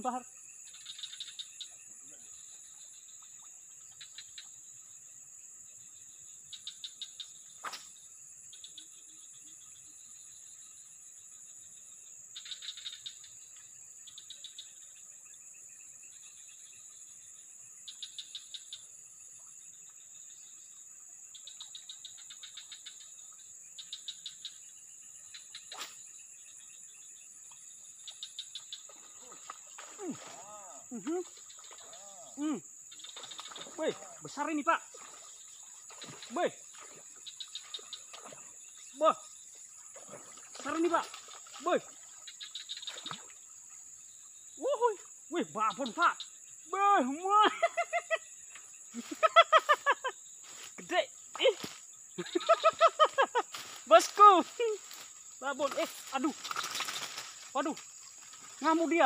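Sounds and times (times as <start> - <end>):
insects droning: 0.0 - 59.0
rapid insect chirping: 0.0 - 59.0.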